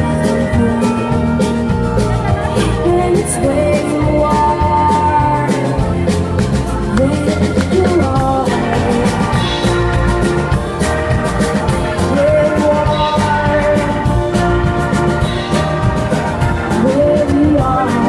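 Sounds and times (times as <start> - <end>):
sliding melody line: 0.0 - 18.0
steady drum beat: 0.0 - 18.0.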